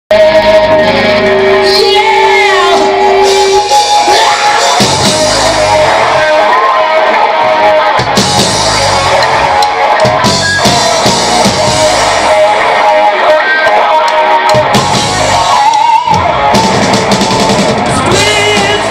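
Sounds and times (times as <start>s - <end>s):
bass guitar: 0.1s - 18.9s
drum kit: 0.1s - 18.9s
electric guitars: 0.1s - 18.9s.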